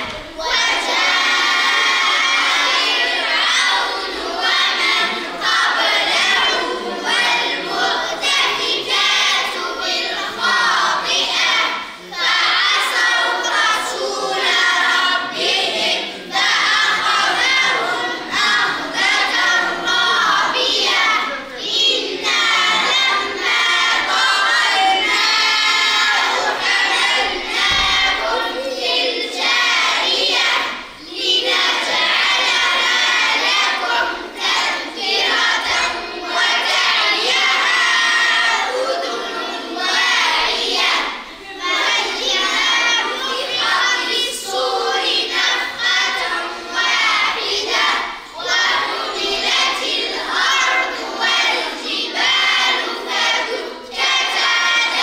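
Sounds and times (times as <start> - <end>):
children chanting in unison: 0.0 - 55.0.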